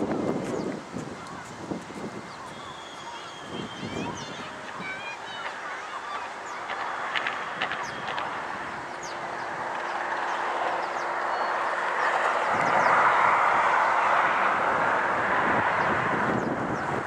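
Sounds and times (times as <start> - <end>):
train wheels on rails: 0.0 - 15.8.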